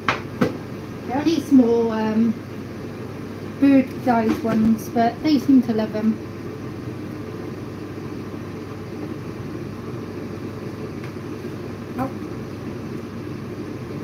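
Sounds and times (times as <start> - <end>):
fan motor humming: 0.0 - 14.0.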